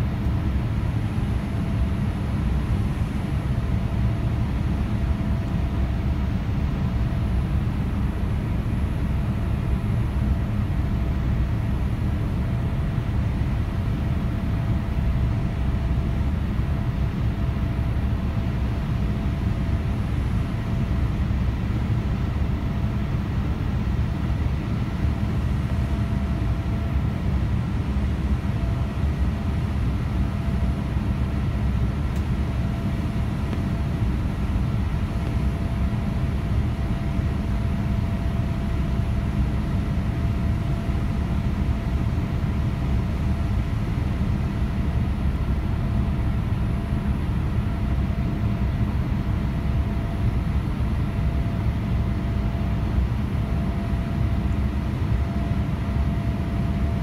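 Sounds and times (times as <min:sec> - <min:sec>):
airplane cabin rumble: 0:00.0 - 0:57.0
faint steady whining tones: 0:00.0 - 0:57.0.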